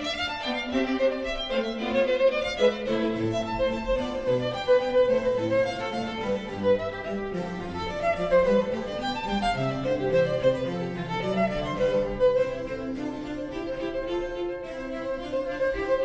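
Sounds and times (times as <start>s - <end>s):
accompanying low instrument: 0.0s - 16.0s
violin playing classical piece: 0.0s - 16.0s.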